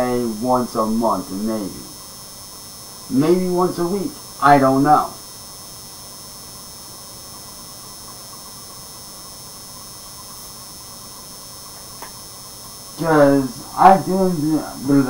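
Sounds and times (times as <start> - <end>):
ring light electrical buzz: 0.0 - 15.0.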